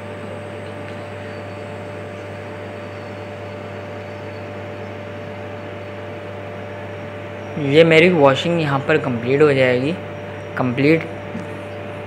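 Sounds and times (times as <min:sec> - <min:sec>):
centrifuge whirring: 0:00.0 - 0:12.0.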